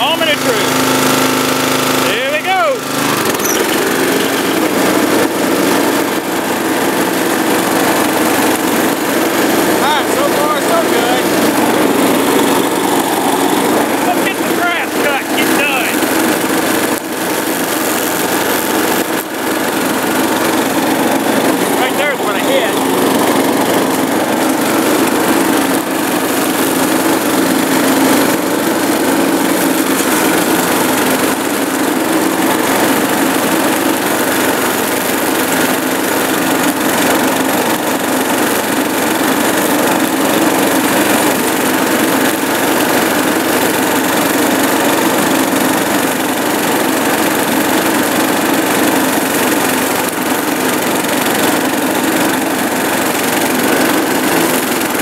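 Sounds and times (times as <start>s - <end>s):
riding lawn mower engine: 0.0s - 55.0s.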